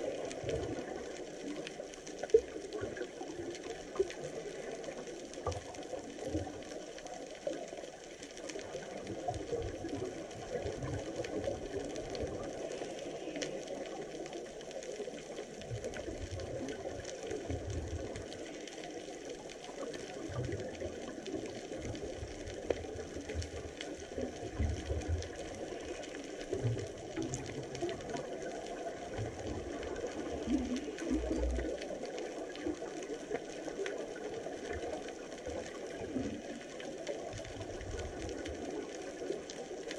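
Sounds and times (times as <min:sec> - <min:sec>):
faint ticks: 0:00.0 - 0:39.9
muffled underwater noise: 0:00.0 - 0:39.9.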